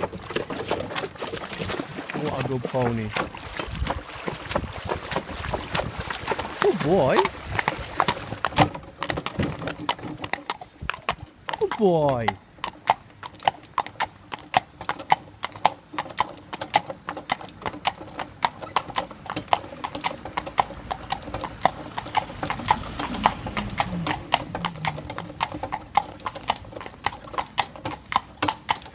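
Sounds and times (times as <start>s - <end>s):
hooves clip-clopping on tarmac: 0.0s - 28.9s.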